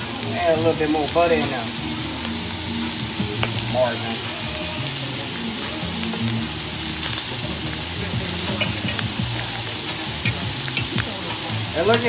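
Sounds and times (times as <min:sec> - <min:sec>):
shrimp sizzling in a pan: 0:00.0 - 0:12.0.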